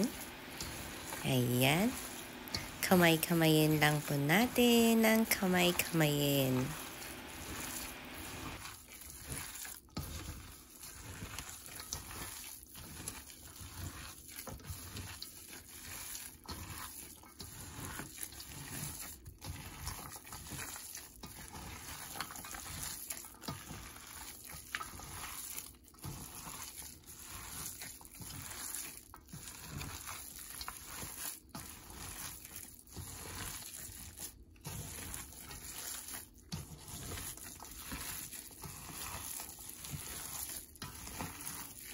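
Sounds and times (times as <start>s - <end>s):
wet squishing of kneaded meat: 6.6s - 41.9s.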